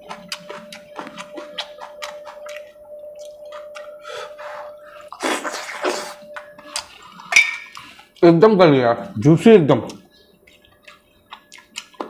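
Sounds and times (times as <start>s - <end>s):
wet chewing and lip-smacking: 0.0s - 4.0s, 4.8s - 8.3s, 9.8s - 12.0s.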